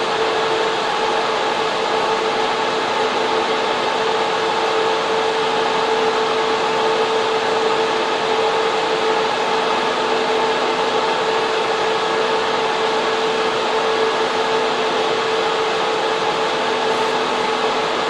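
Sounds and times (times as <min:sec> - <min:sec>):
server fans rushing: 0:00.0 - 0:18.0.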